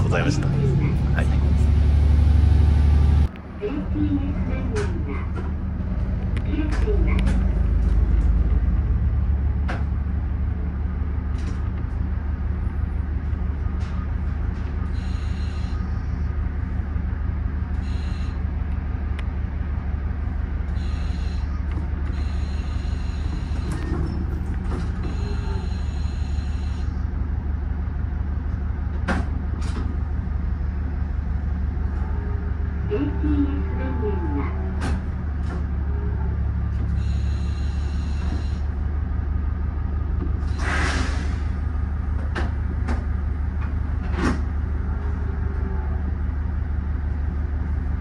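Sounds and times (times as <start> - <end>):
diesel railcar engine running: 0.0 - 48.0.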